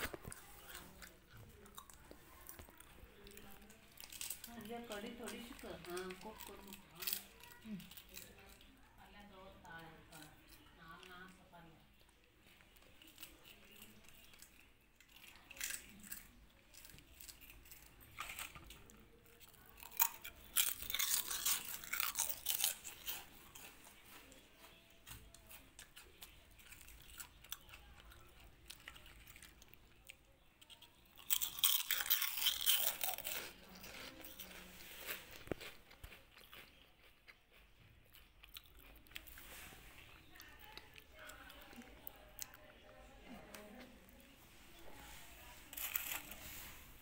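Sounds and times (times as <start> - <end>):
kittens crunching crisp snack: 0.0 - 47.0.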